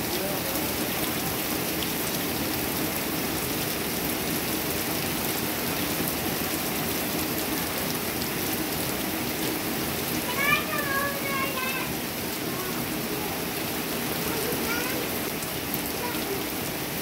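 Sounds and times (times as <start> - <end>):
heavy rain on pond and deck: 0.0 - 17.0.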